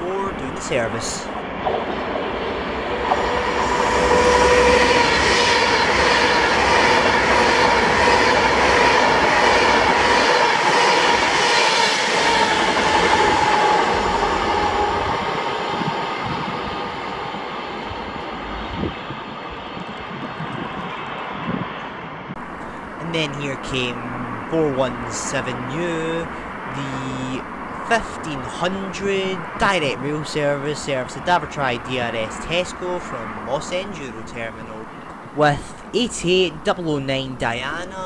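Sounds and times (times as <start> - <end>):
electric train passing: 0.0 - 35.4
train whine: 0.0 - 35.9.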